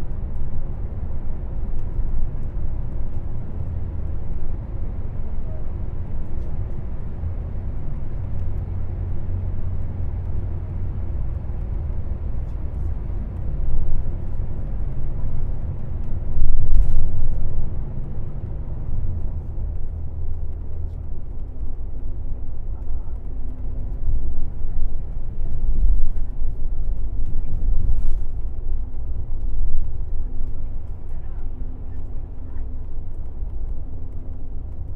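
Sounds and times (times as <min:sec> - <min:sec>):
coach engine and road rumble: 0:00.0 - 0:34.9.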